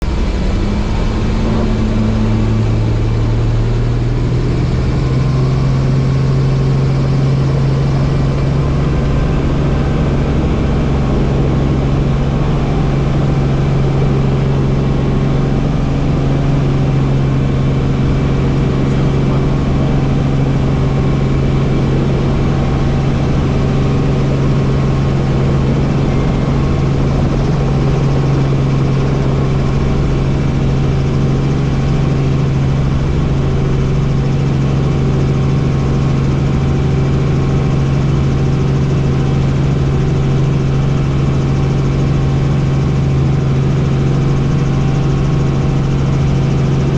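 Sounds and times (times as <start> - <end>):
helicopter running: 0.0 - 46.9.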